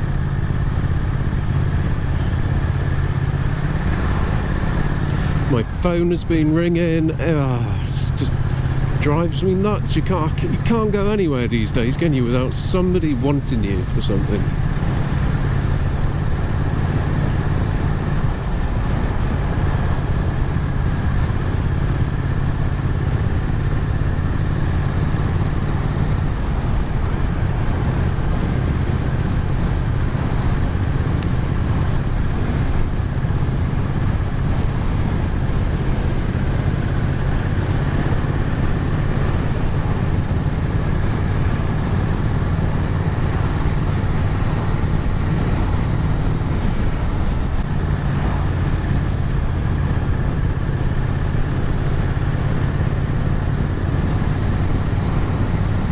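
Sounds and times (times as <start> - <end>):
motorcycle engine cruising: 0.0 - 55.9
wind noise on microphone: 9.6 - 55.9.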